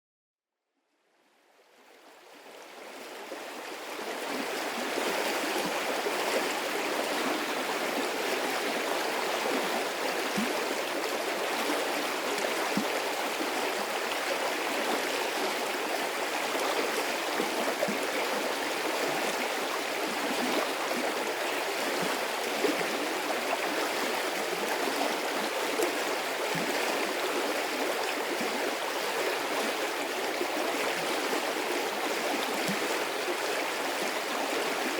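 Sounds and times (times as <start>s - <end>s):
stream rushing and babbling: 1.4s - 34.9s.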